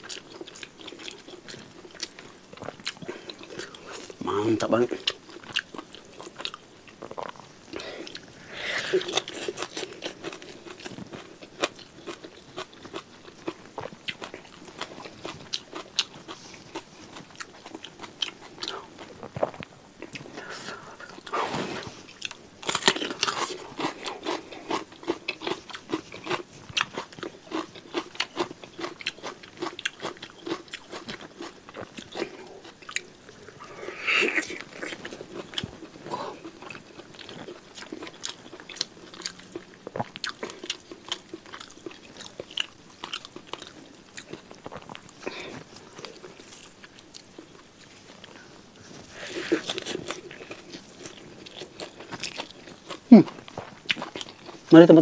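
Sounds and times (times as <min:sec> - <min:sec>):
person chewing crunchy food: 0:00.0 - 0:54.7.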